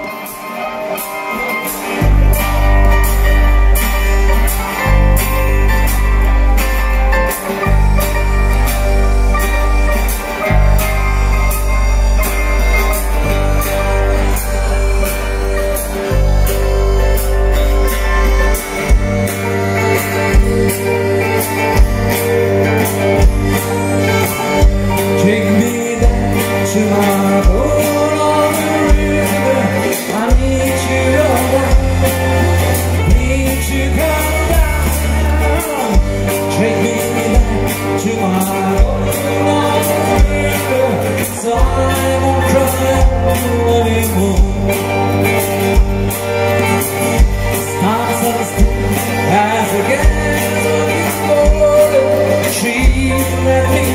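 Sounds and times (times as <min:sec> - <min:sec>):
accordion: 0:00.0 - 0:53.9
acoustic guitars: 0:00.0 - 0:53.9
person singing: 0:00.0 - 0:53.9
steady drum beat: 0:00.0 - 0:53.9
bass: 0:01.7 - 0:53.9.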